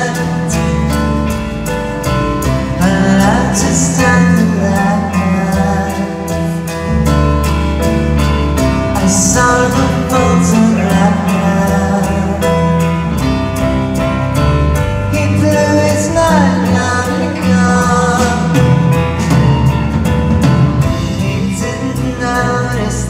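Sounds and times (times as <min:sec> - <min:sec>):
person singing: 0:00.0 - 0:13.3, 0:15.0 - 0:23.0
live rock band: 0:00.0 - 0:23.0.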